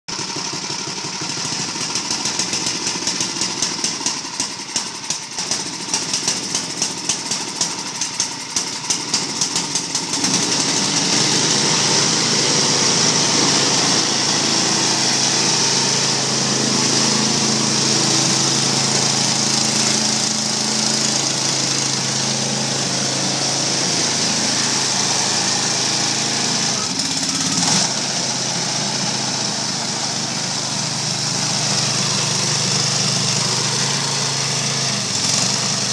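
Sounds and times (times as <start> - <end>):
snowblower engine running: 0.1 - 35.9.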